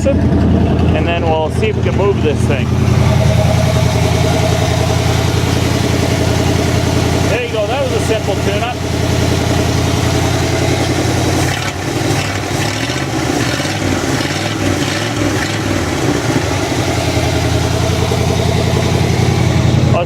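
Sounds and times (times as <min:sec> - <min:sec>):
pickup engine running loud: 0:00.0 - 0:20.0.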